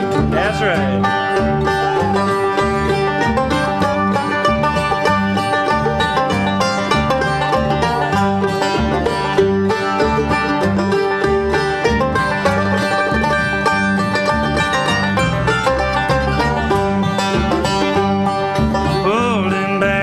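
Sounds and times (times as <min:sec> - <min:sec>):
fast banjo picking: 0:00.0 - 0:20.0
steady bass: 0:00.0 - 0:20.0.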